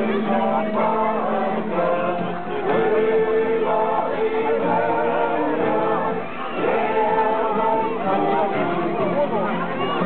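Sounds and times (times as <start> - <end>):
group of people singing: 0.0 - 10.0.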